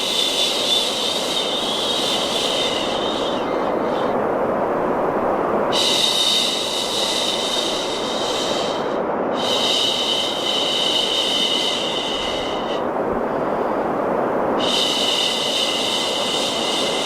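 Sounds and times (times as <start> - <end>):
steady white noise: 0.0 - 17.0.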